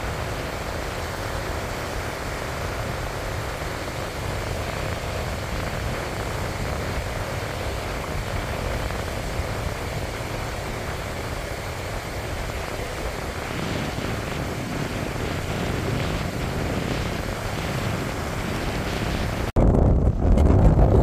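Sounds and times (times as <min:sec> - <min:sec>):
surf breaking on a beach: 0:00.0 - 0:21.0
wind buffeting the microphone: 0:00.0 - 0:21.0.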